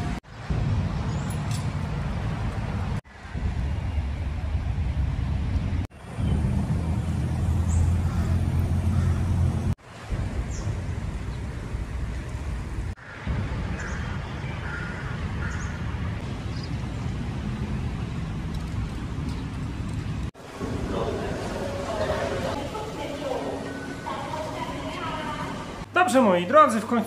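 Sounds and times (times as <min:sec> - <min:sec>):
distant road traffic rumble: 0:00.0 - 0:25.9.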